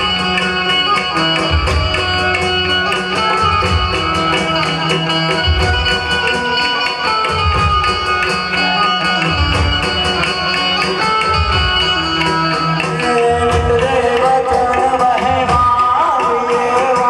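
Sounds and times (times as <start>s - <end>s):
tabla-style drumming: 0.0s - 17.0s.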